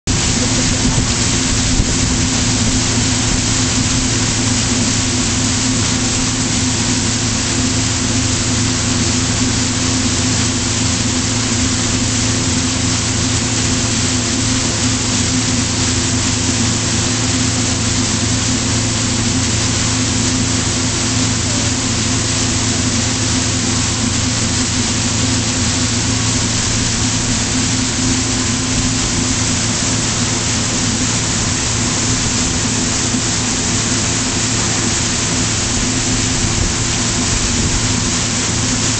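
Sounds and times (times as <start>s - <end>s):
boat engine running: 0.0s - 38.9s
rush of wind and water: 0.1s - 38.9s.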